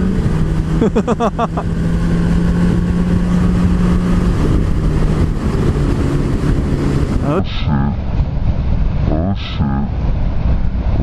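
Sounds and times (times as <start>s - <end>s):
motorcycle engine cruising: 0.0s - 9.2s
wind and road noise: 0.0s - 11.0s.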